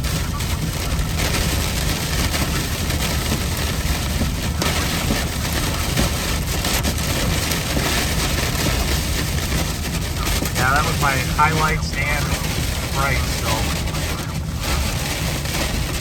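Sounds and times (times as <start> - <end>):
heavy rain on a car: 0.0 - 16.0.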